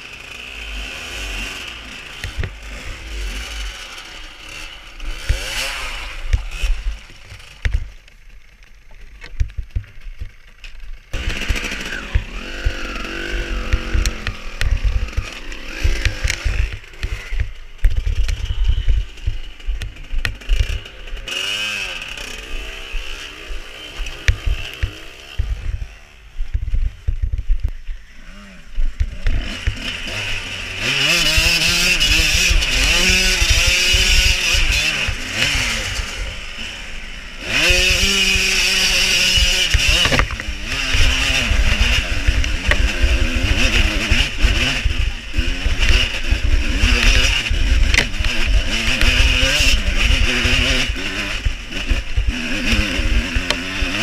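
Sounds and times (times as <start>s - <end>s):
dirt bike engine revving: 0.0s - 8.8s, 9.4s - 54.0s.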